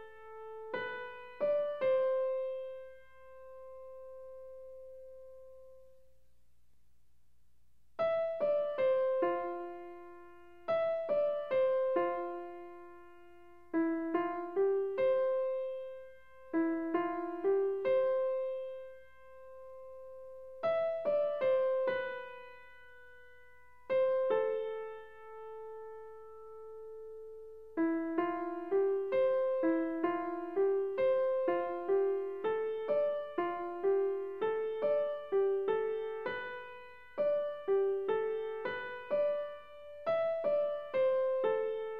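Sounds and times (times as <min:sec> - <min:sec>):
gentle piano melody: 0:00.0 - 0:06.0, 0:08.0 - 0:41.9.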